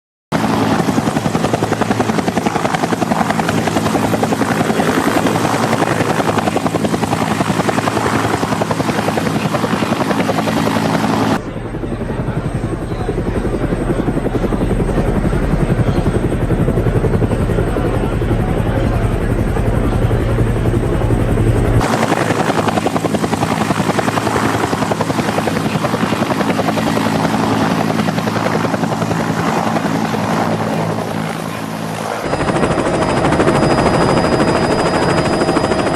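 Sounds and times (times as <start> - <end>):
helicopter rotor chopping: 0.3 - 35.9.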